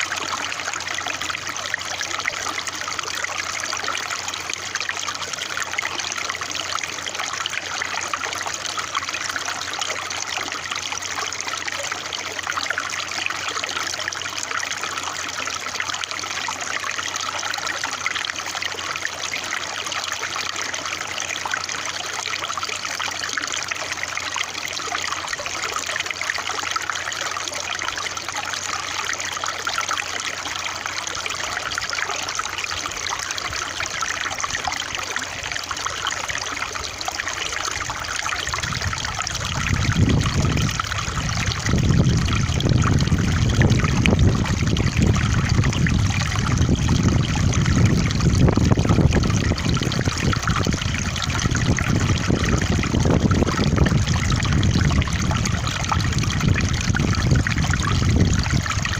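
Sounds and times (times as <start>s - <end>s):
water trickling and splashing: 0.0s - 58.9s.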